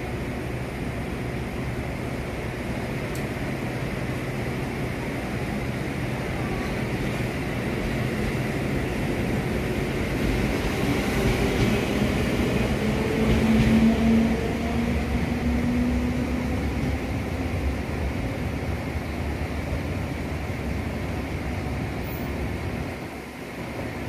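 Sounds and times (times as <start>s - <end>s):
train running past: 0.0s - 24.0s.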